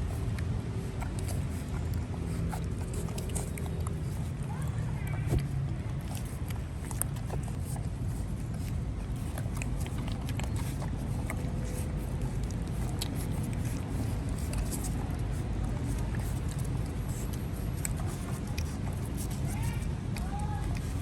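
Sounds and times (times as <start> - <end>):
puppies lapping milk: 0.0 - 21.0.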